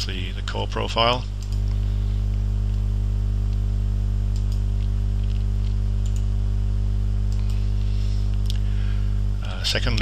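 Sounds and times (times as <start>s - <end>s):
loud low hum: 0.0s - 10.0s.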